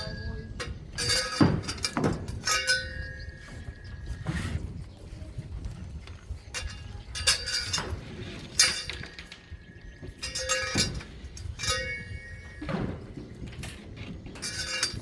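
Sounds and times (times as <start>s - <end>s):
steel rebar and tools clanking: 0.0s - 4.8s, 6.0s - 15.0s.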